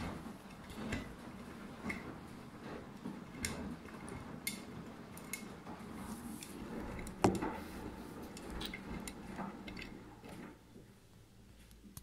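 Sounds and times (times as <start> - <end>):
washing machine drum sloshing: 0.0 - 11.0.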